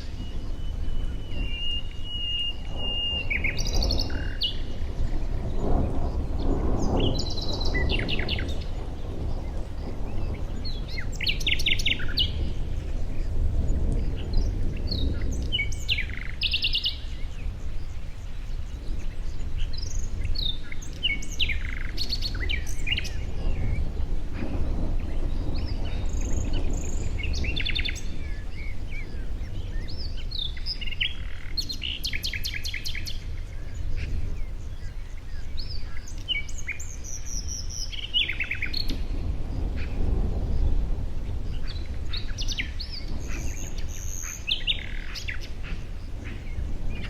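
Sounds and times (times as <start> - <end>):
birds chirping and trilling: 0.0 - 47.0.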